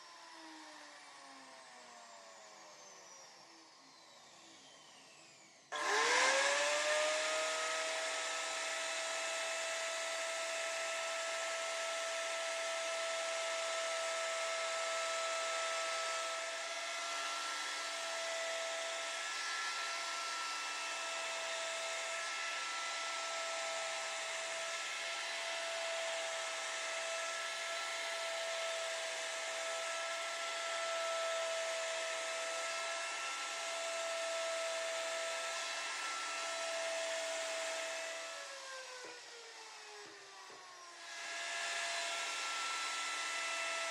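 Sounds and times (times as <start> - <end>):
electric router whining: 0.0 - 43.9.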